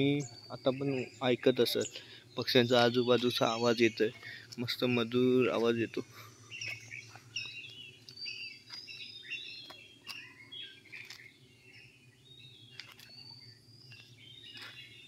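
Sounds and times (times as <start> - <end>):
wild birds chirping and calling: 0.0 - 15.0.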